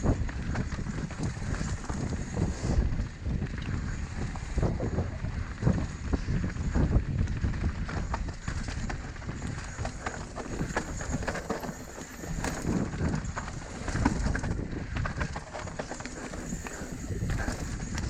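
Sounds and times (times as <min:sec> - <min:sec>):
bike knocking and rattling: 0:00.0 - 0:18.0
bike tyres rumbling on dirt: 0:00.0 - 0:18.0
wind on microphone: 0:00.0 - 0:18.0.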